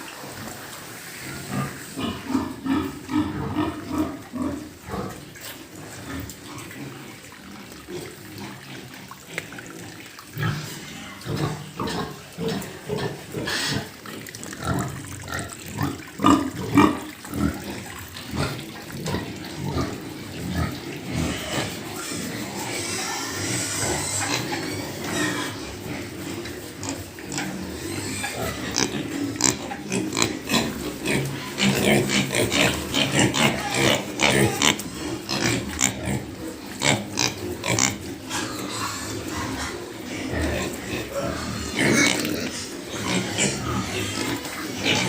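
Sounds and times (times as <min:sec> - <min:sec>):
pigs grunting: 0:01.2 - 0:45.0.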